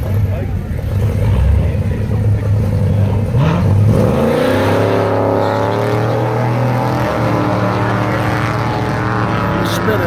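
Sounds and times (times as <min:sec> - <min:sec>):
drag racing cars accelerating: 0:00.0 - 0:10.0.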